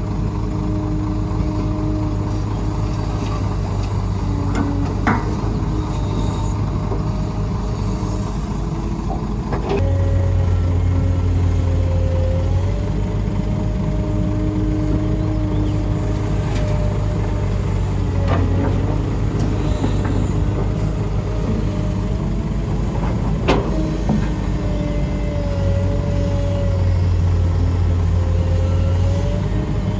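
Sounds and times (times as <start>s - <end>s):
heavy machinery diesel engine: 0.0s - 29.9s.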